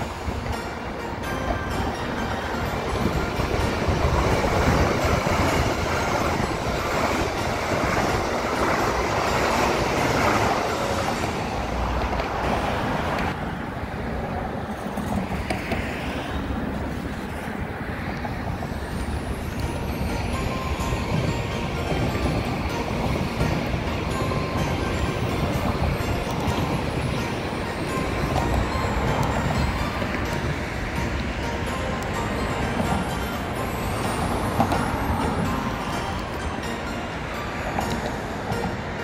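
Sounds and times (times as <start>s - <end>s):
passing train rumble: 0.0s - 39.0s.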